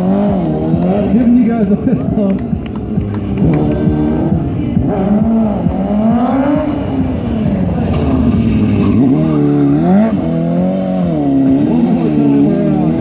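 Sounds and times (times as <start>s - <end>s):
motorcycle engine revving hard: 0.0s - 1.4s, 3.4s - 13.0s.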